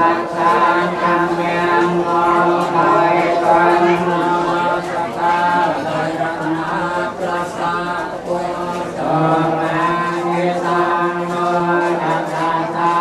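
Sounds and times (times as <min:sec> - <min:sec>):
prayer chanting: 0:00.0 - 0:13.0.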